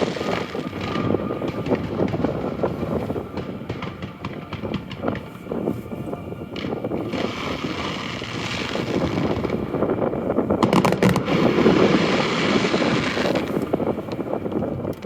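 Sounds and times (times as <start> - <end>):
fireworks crackling and rumbling: 0.0 - 15.0
fireworks sharp bangs: 0.0 - 15.0
wind buffeting microphone: 0.0 - 15.0.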